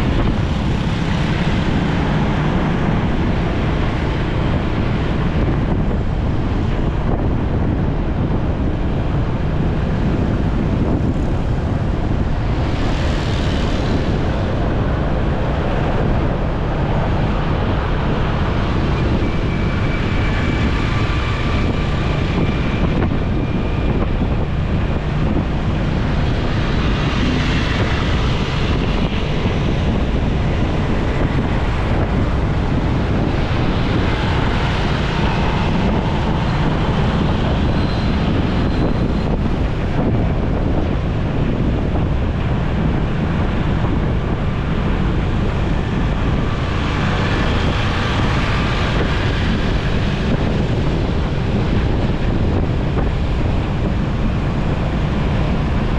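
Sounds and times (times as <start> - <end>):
road noise: 0.0 - 55.9
wind rushing over microphone: 0.0 - 55.9.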